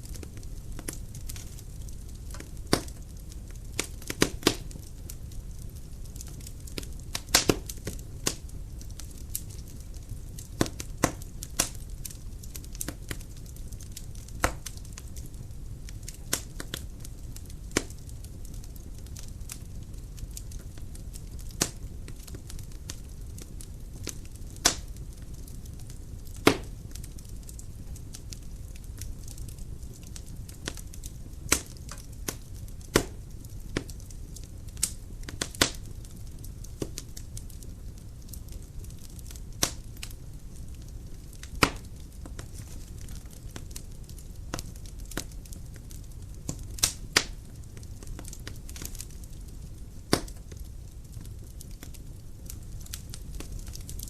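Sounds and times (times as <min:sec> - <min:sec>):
firewood crackles and pops: 0:00.0 - 0:54.0
low rush of flame: 0:00.0 - 0:54.0.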